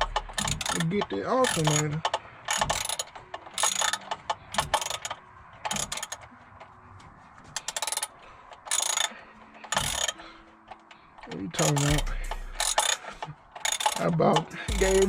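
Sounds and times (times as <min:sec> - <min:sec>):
ratchet wrench clicking: 0:00.0 - 0:06.2, 0:07.6 - 0:15.0.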